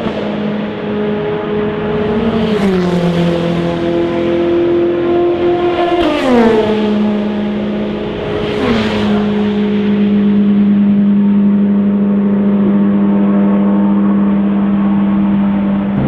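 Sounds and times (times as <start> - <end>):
low engine drone: 0.0 - 16.0
race cars passing at speed: 0.0 - 16.0.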